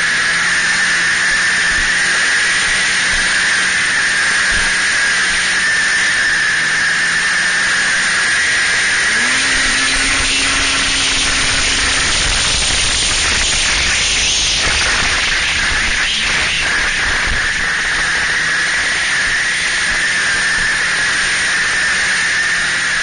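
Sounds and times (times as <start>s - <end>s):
snowmobile engine whine: 0.0s - 23.0s
wind and track noise: 0.0s - 23.0s.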